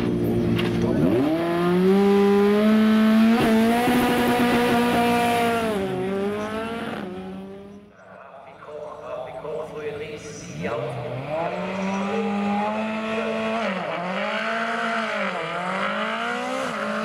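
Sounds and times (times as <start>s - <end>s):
race car engine revving: 0.0s - 8.0s, 8.9s - 17.0s.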